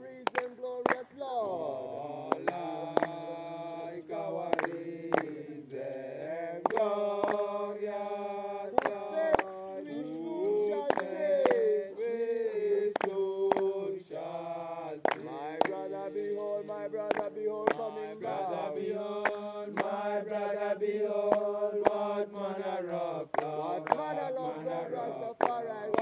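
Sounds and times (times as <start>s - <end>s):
voices chanting held notes: 0.0s - 26.0s.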